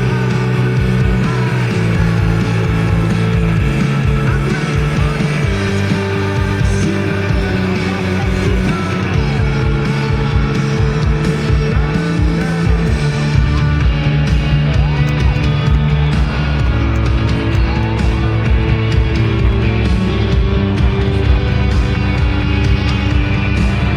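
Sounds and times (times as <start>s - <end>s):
rock band playing: 0.0s - 23.9s.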